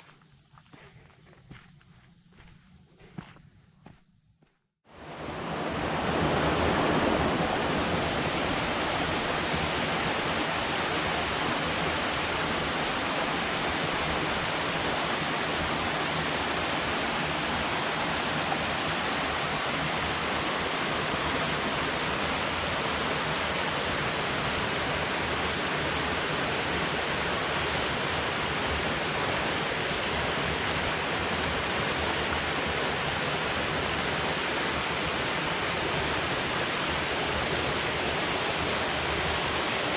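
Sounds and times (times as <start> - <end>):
water rushing below dam: 5.0 - 39.9.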